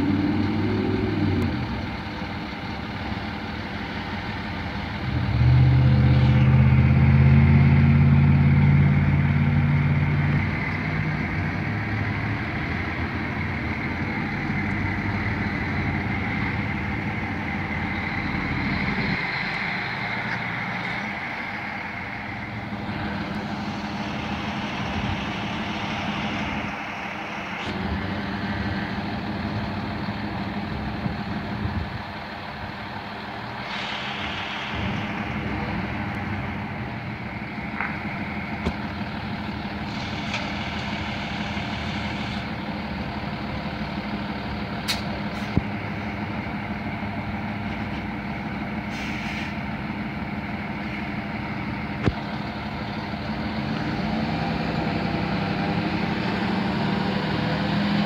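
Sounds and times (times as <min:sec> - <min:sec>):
deeper engine drone: 0:00.0 - 0:58.0
diesel truck engine idling: 0:00.0 - 0:58.0.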